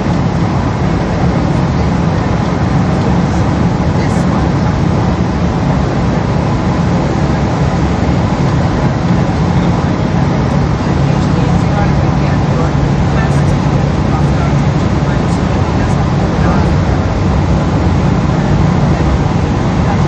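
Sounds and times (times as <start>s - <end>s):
airplane cabin engine rumble: 0.0s - 20.0s
low hum: 0.0s - 20.0s.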